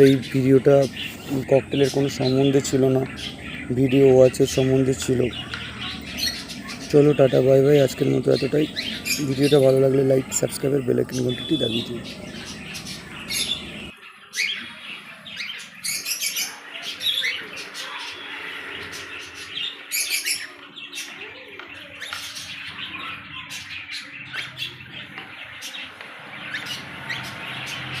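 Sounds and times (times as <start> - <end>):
cockatiels chirping: 0.0 - 28.0.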